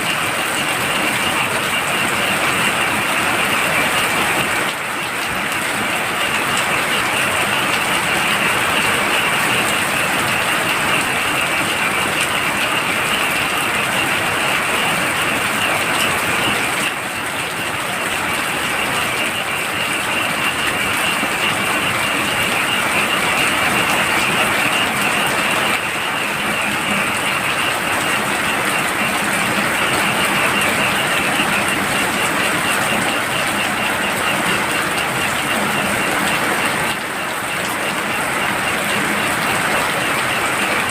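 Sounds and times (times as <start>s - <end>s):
heavy rain falling: 0.0s - 40.9s
frogs calling: 0.3s - 40.9s.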